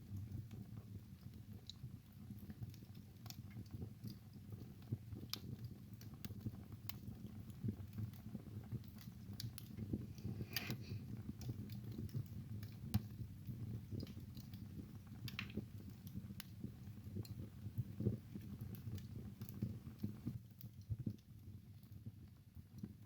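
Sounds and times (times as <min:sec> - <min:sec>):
fire crackles and pops: 0:00.0 - 0:23.0
wood fire burning: 0:00.0 - 0:23.0.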